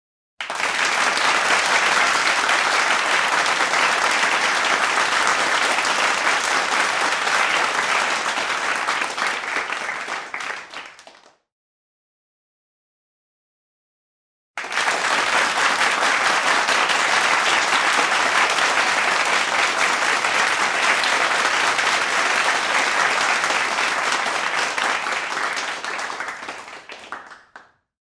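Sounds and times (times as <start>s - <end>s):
crowd applauding: 0.4s - 11.4s, 14.6s - 27.7s.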